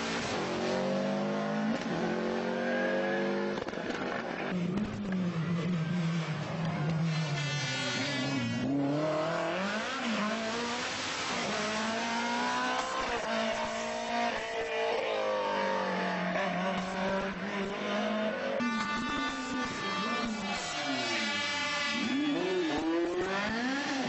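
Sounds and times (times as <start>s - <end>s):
rally car engines revving: 0.0s - 24.0s.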